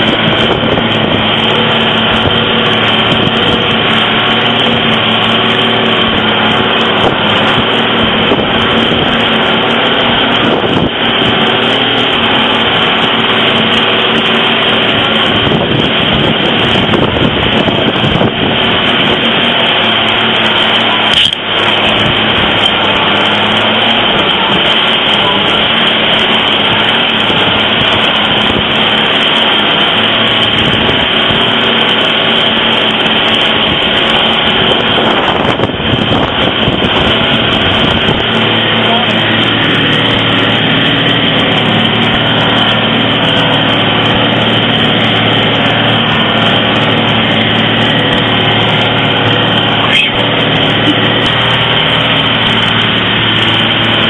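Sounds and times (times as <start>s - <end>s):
tyres on rough gravel: 0.0s - 54.0s
vehicle engine running: 0.0s - 54.0s.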